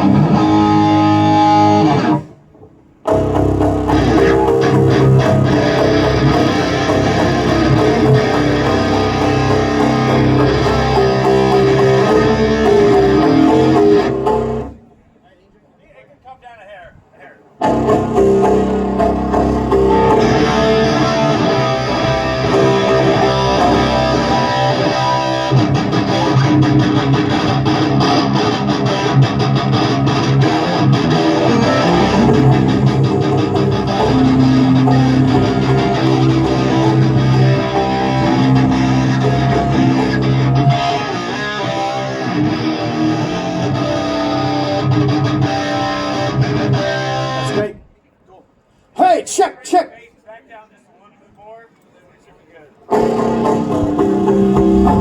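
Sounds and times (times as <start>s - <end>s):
electric guitar sustained notes: 0.0s - 2.4s, 3.0s - 14.8s, 17.6s - 47.8s, 52.9s - 55.0s.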